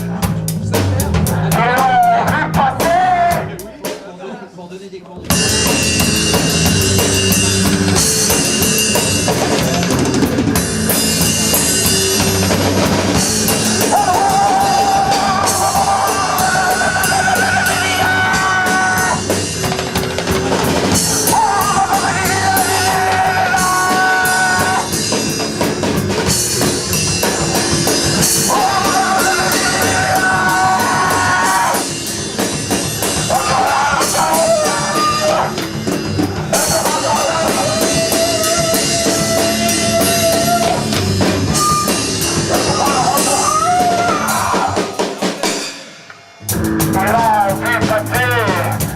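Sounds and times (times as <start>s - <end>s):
rock band playing: 0.0s - 4.2s, 5.2s - 48.9s
drum kit: 0.0s - 4.4s, 5.2s - 48.9s.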